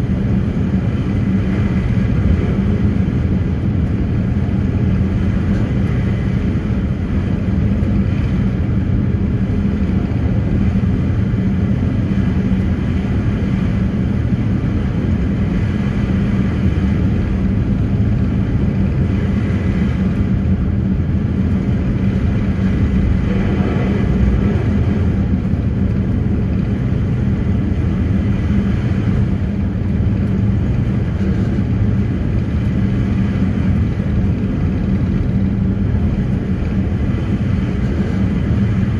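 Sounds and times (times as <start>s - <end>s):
ferry engines droning: 0.0s - 38.9s.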